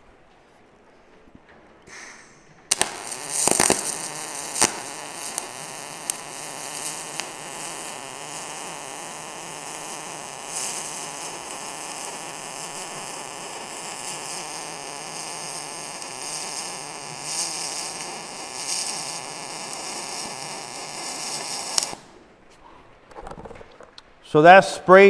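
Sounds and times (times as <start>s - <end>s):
welding arc pops and crackle: 1.8s - 22.2s
welding arc hissing: 1.9s - 22.2s.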